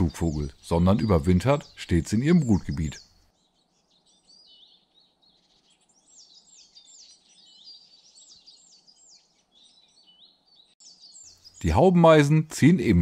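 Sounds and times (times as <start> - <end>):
songbirds whistling: 0.0 - 11.9.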